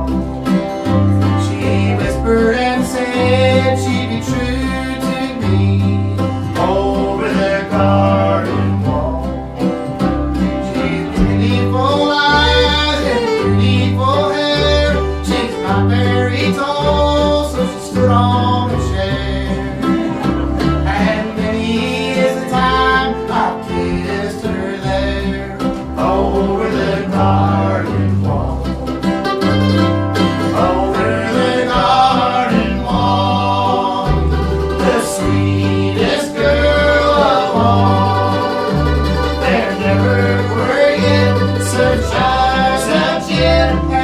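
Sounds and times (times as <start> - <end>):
string band playing: 0.0 - 44.0.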